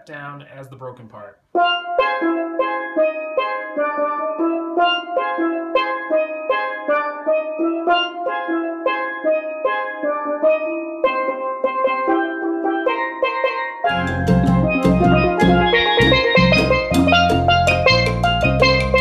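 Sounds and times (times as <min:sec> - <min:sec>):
steel pan chord pattern: 0:01.6 - 0:19.0.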